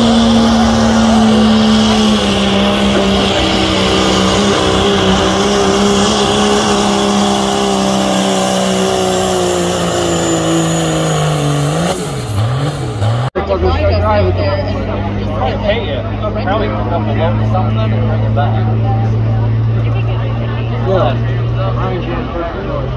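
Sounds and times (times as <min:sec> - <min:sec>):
diesel pickup engine running: 0:00.0 - 0:22.9.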